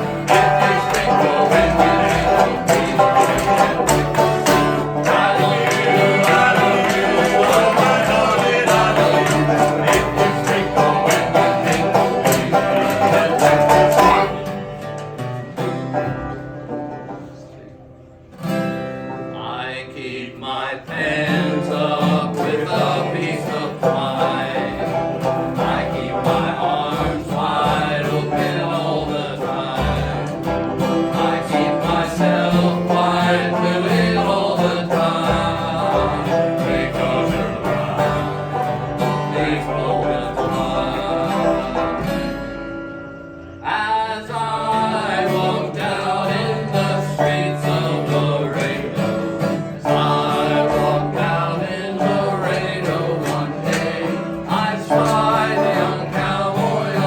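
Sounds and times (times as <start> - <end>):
acoustic band playing strings: 0.0 - 57.0.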